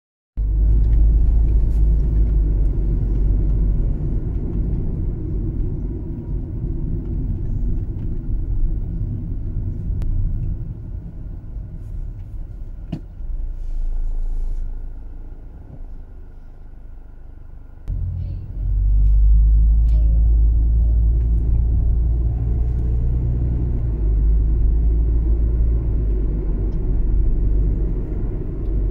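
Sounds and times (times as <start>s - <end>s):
car road and engine rumble: 0.4s - 28.9s.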